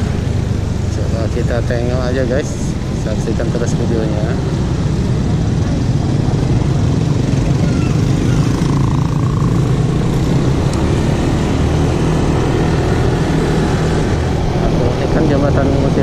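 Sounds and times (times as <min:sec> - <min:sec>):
motor scooter engine: 0:00.0 - 0:16.0.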